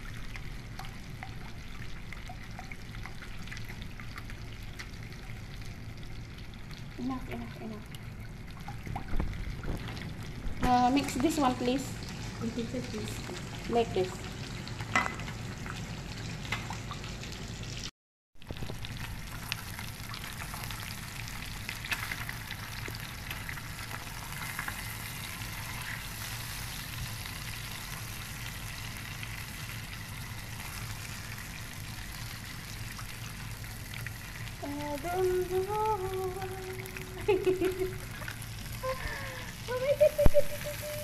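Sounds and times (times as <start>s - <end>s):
fish sizzling in a pan: 0.0s - 41.0s.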